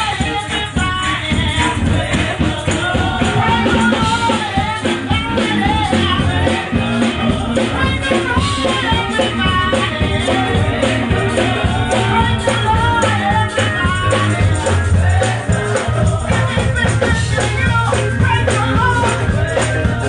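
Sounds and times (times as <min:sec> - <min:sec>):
live band playing upbeat song: 0:00.0 - 0:20.0
voices singing: 0:00.0 - 0:20.0.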